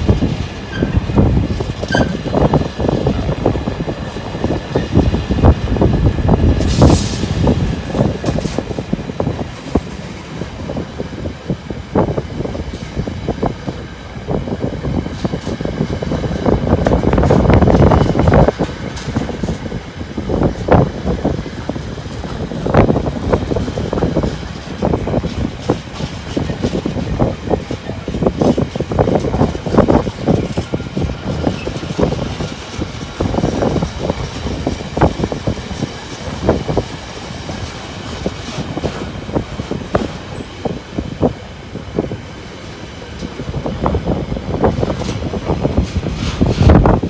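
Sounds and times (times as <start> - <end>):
train wheels clattering on track: 0.0 - 47.0.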